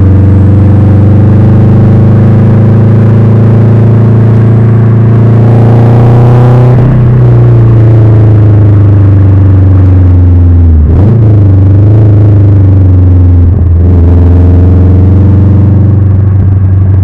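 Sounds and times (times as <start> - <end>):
loud low car exhaust: 0.0 - 17.0.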